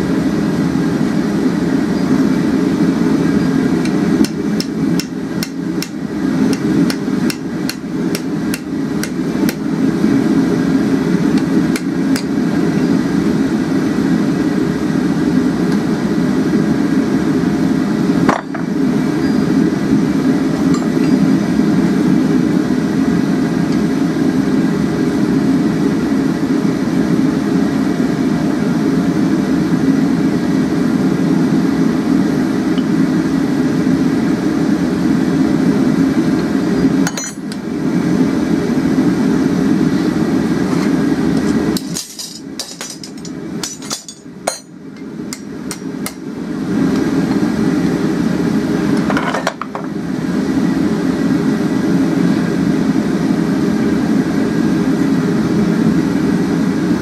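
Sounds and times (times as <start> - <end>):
gas forge burner roar: 0.0 - 57.0.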